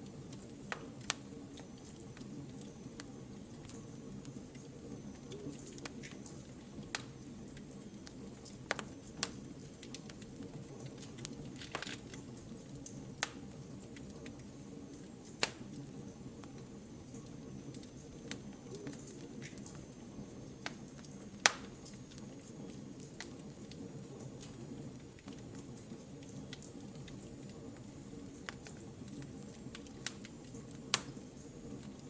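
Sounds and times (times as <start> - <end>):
fire crackling and popping: 0.0 - 32.0
flames rumbling in fireplace: 0.0 - 32.0.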